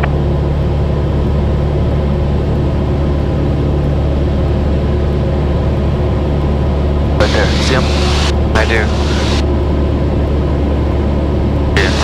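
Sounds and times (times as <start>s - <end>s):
airplane engine droning in cabin: 0.0s - 12.0s.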